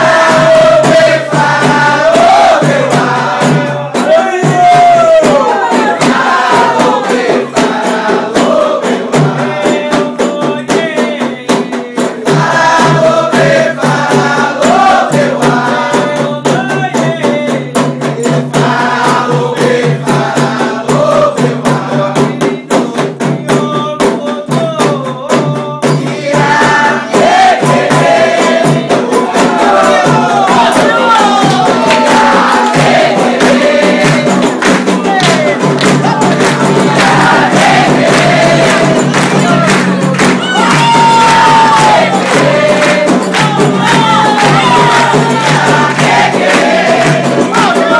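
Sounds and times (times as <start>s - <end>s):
group of voices singing: 0.0s - 47.9s
hand percussion with rattles: 0.0s - 47.9s.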